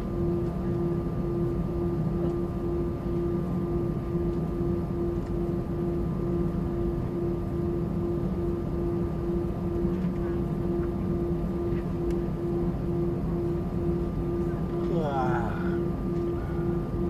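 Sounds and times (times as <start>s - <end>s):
aircraft cabin engine hum: 0.0s - 17.0s.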